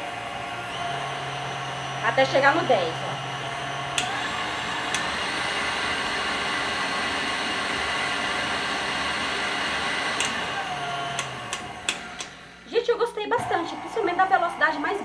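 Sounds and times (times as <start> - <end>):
stand mixer motor whine: 0.0 - 12.7, 13.4 - 15.0.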